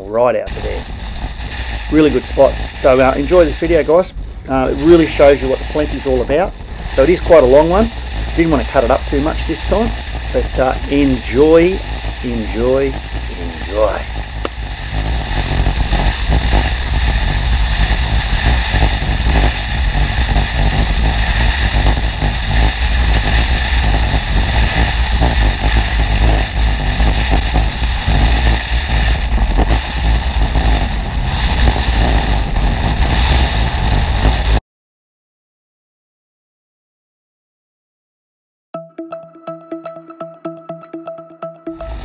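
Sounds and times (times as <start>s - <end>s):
wind buffeting microphone: 0.3s - 34.6s.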